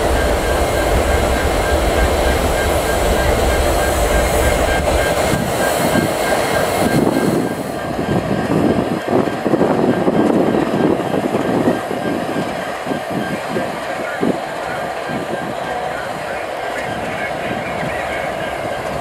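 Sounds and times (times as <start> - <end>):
diesel locomotive engine rumble: 0.0 - 19.0
train wheels rolling on rails: 0.0 - 19.0.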